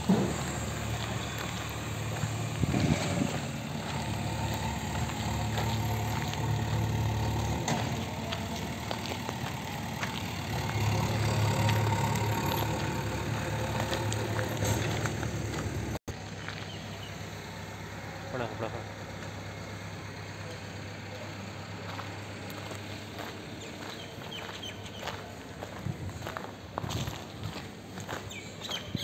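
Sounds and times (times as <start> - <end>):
engine running with low hum: 0.0 - 29.0
outdoor noise: 0.0 - 29.0.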